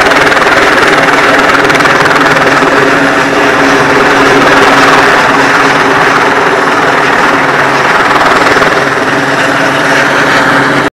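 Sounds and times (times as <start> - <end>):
helicopter flying overhead: 0.0 - 10.9.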